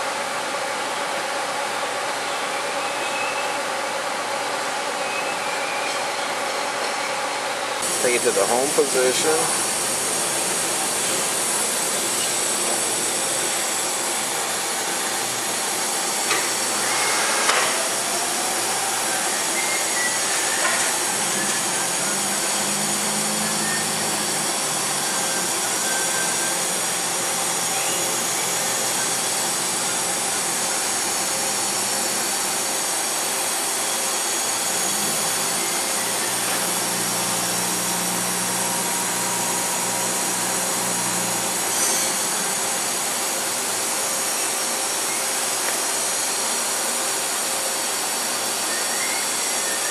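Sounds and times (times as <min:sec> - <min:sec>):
machine hiss and hum: 0:00.0 - 0:49.9.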